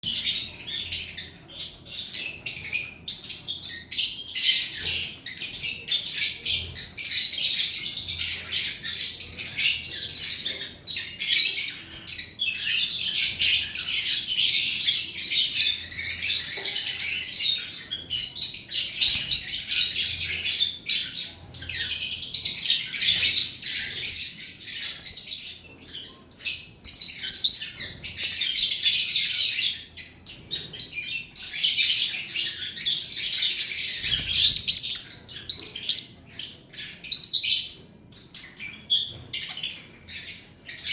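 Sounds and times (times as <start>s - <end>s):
lovebird chirping and squeaking: 0.0s - 40.9s.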